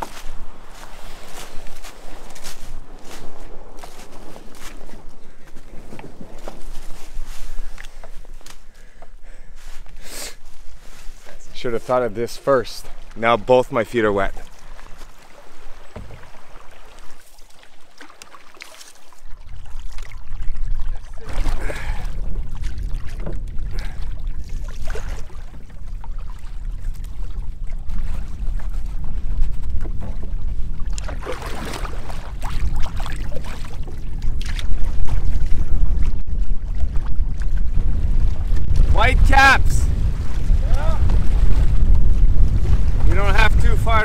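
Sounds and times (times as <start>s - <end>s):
wind rumbling on microphone: 0.0s - 17.2s, 19.2s - 44.0s
paddling on calm water: 0.0s - 44.0s
waves splashing against hull: 0.0s - 44.0s.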